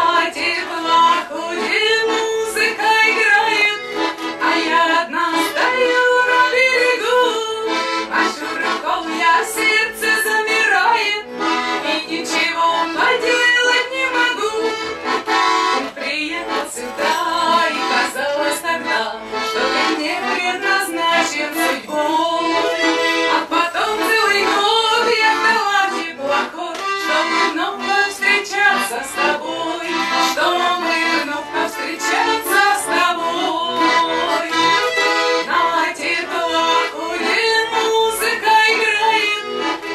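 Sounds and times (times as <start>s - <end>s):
woman singing: 0.0s - 14.9s, 15.7s - 39.9s
button accordion folk song: 0.0s - 39.9s.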